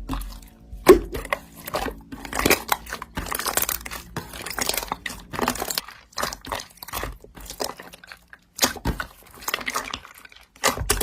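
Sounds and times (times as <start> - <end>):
slime squishing and crackling: 0.0 - 11.0.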